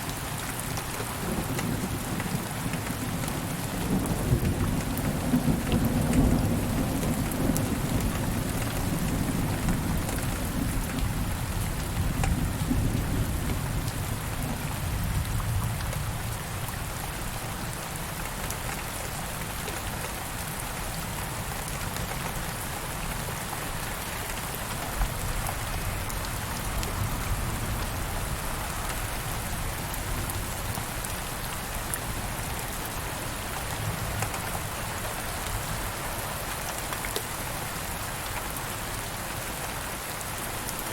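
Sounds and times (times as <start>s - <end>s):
steady rainfall hissing: 0.0s - 40.9s.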